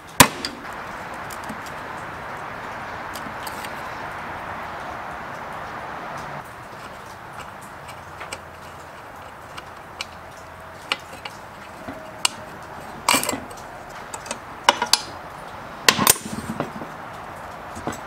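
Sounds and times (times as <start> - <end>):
hand tools and metal parts clinking: 0.0 - 4.4, 6.2 - 18.0.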